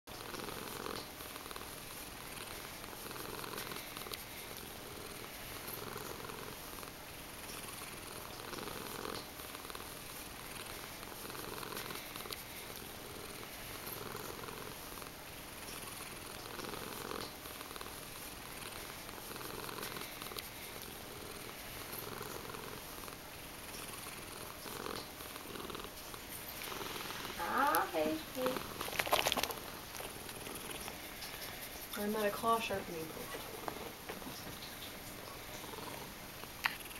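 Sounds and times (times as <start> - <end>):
cat purring: 0.1 - 36.9.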